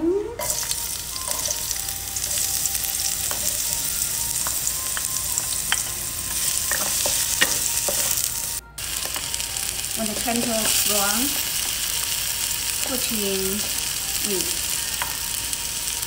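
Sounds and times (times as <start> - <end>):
onion sizzling in hot oil: 0.4 - 16.0.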